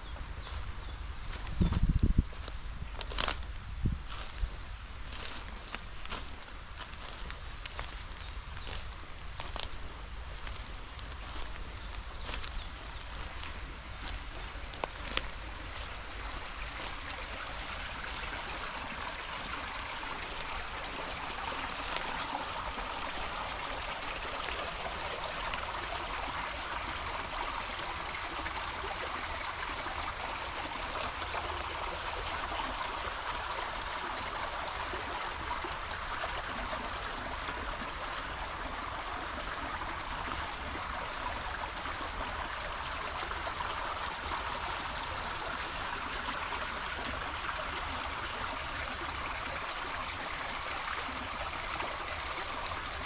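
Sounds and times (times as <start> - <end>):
stream rushing and trickling: 0.0 - 53.0.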